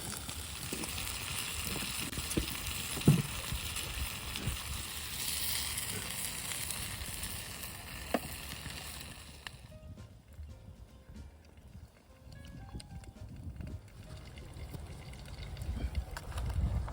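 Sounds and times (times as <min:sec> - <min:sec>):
fire pops: 0:00.0 - 0:16.9
grill sizzling and crackling: 0:00.0 - 0:16.9.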